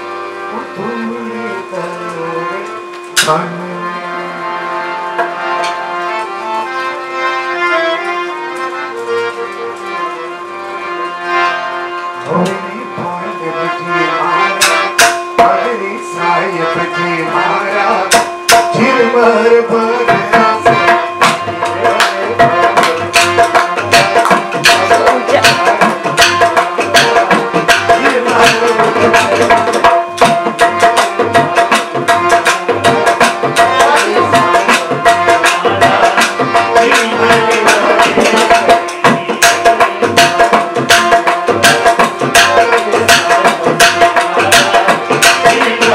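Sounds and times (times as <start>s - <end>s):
hand drum rhythm: 0.0s - 6.7s, 12.2s - 45.9s
harmonium melody: 0.0s - 45.9s.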